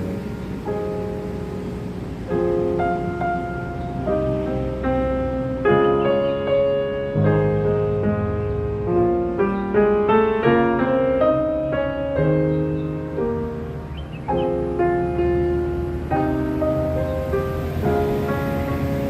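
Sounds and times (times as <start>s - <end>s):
piano melody over held chords: 0.0s - 19.0s.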